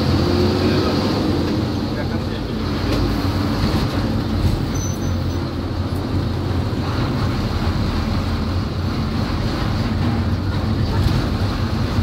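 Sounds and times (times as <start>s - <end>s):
bus engine drone: 0.0s - 12.0s
road and wind noise: 0.0s - 12.0s.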